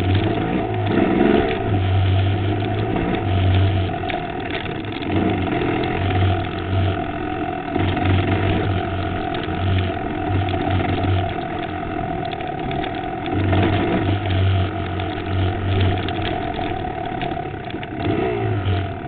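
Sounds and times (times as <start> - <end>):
knocks and rattles: 0.0 - 7.1, 7.7 - 19.0
dirt bike engine running: 0.0 - 19.0.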